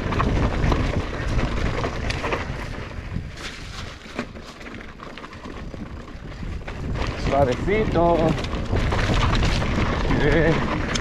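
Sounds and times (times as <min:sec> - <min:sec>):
wind buffeting microphone: 0:00.0 - 0:04.0, 0:05.3 - 0:11.0
bike rattling: 0:00.0 - 0:11.0
tyres crunching over gravel: 0:00.0 - 0:11.0.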